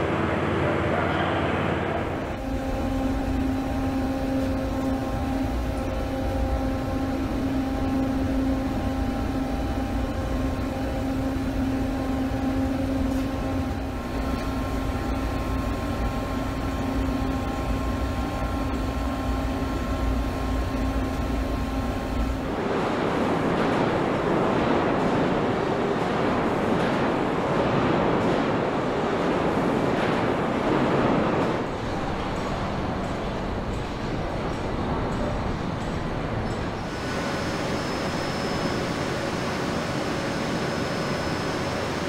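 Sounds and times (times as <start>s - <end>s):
steady machine drone: 0.0s - 42.0s.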